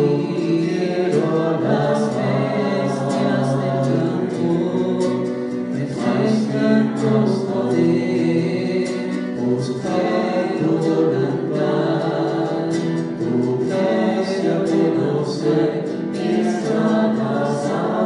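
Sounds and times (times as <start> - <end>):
soft instrumental accompaniment: 0.0 - 18.0
voices singing together: 0.0 - 18.0.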